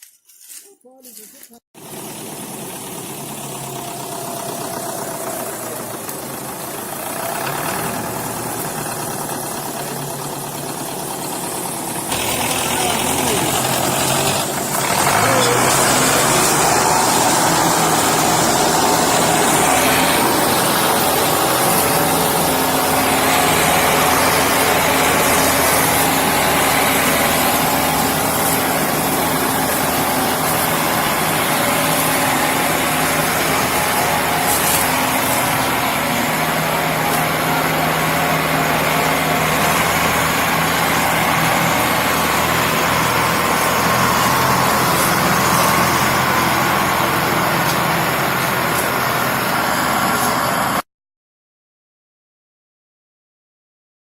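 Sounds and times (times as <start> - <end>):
tractor diesel engines under load: 0.0 - 50.8.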